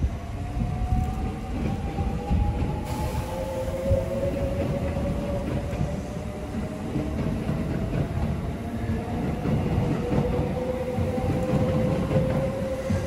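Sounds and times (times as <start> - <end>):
faint train whine: 0.0 - 13.0
train rolling rumble: 0.0 - 13.0.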